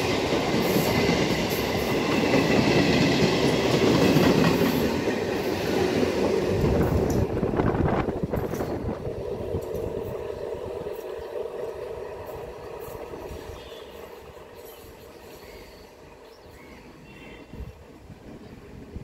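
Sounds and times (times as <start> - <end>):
electric train running hum: 0.0 - 19.0.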